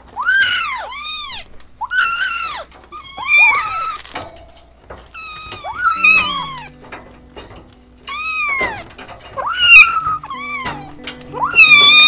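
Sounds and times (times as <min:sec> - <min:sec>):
kittens meowing: 0:00.0 - 0:04.2, 0:05.2 - 0:06.8, 0:08.0 - 0:12.0.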